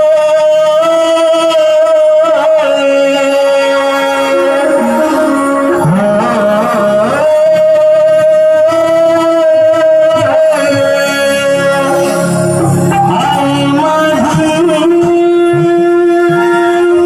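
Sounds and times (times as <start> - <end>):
instrumental accompaniment: 0.0 - 17.0
person singing devotional song: 0.0 - 17.0.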